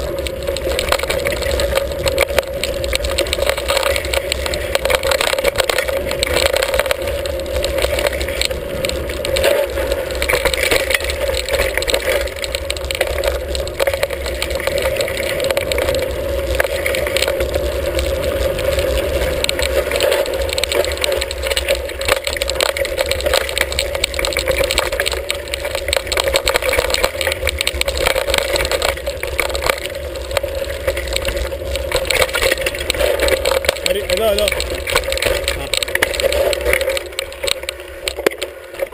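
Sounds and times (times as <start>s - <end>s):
bike rattling over bumps: 0.0s - 38.9s
low wind rumble: 0.0s - 38.9s
tyres on dirt and gravel: 0.0s - 38.9s.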